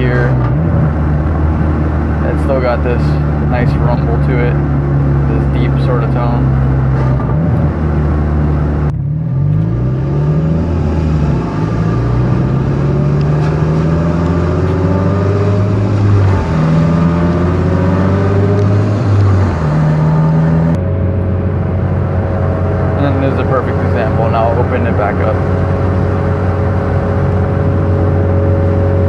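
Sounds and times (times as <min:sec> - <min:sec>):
car engine rumble through exhaust: 0:00.0 - 0:29.0.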